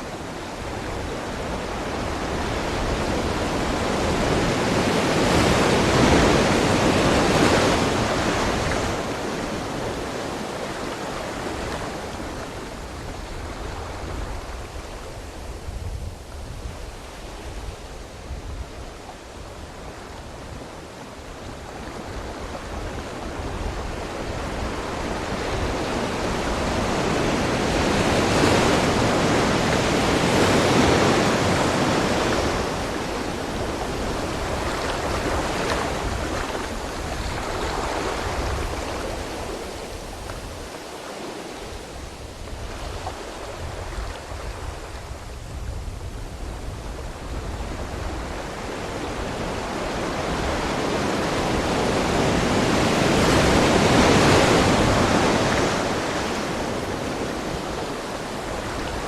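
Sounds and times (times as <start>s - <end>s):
ocean waves crashing: 0.0s - 15.2s, 19.3s - 45.1s, 47.5s - 59.0s.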